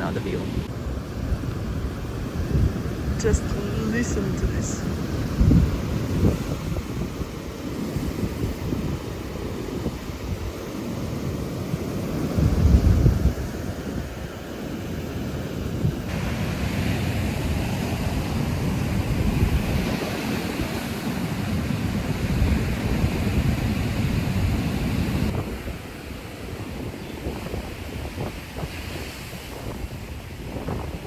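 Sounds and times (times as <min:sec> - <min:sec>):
waves washing onto beach: 0:00.0 - 0:31.0
wind buffeting microphone: 0:00.0 - 0:31.0.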